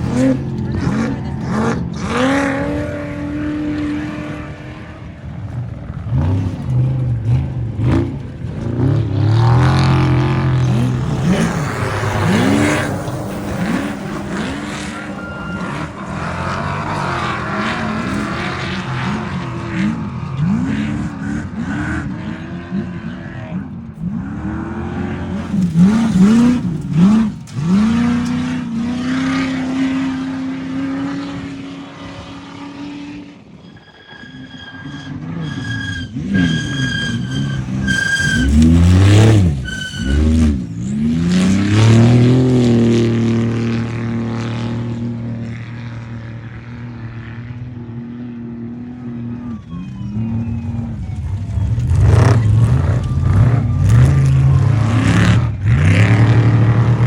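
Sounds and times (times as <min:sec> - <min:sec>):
race vehicle engines revving: 0:00.0 - 0:57.0.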